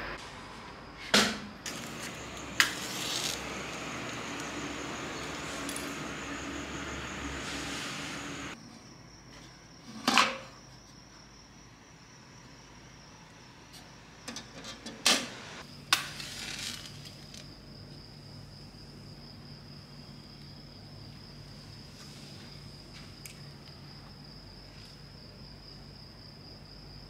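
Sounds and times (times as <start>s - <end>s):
cricket trilling: 0.4s - 14.8s, 15.6s - 27.0s.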